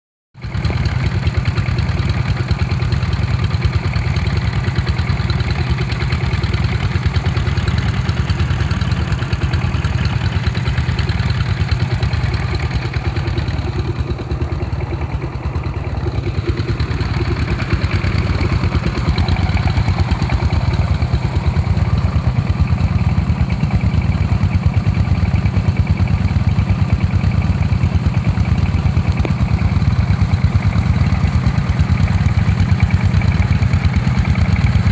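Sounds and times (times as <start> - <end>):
diesel water pump engines chugging: 0.4 - 34.9.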